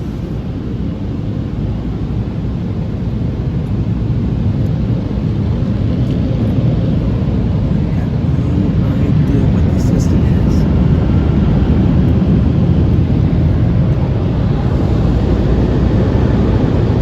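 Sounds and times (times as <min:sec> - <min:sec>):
muffled car wash rushing: 0:00.0 - 0:17.0.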